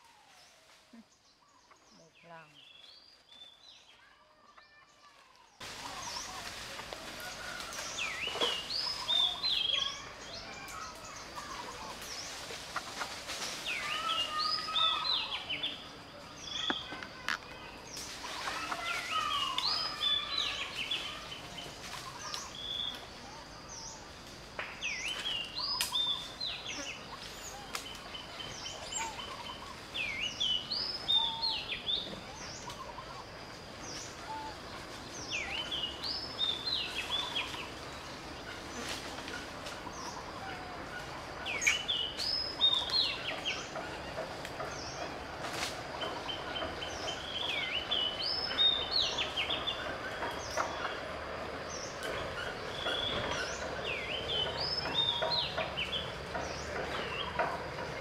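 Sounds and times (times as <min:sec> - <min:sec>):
steady outdoor hiss: 0:00.0 - 0:58.0
birds chirping and calling: 0:05.6 - 0:58.0.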